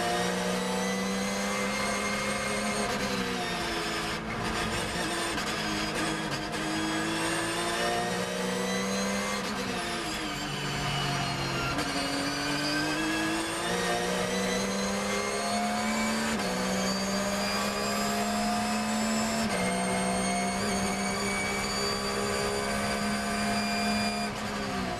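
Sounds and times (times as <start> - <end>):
racing engine accelerating with upshifts: 0.0 - 24.9.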